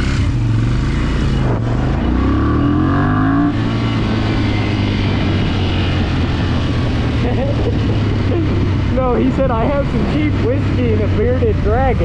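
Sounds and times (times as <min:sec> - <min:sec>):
motorcycle engine accelerating: 0:00.0 - 0:12.0
wind rushing over microphone: 0:01.2 - 0:12.0.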